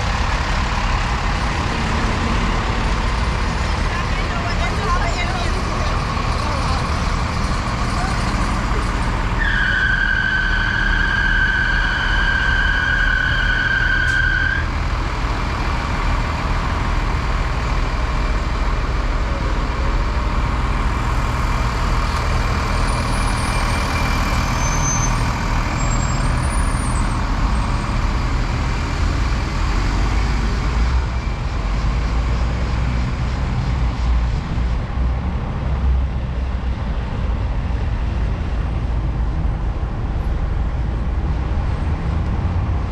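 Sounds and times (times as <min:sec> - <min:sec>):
street traffic rumble: 0:00.0 - 0:42.9.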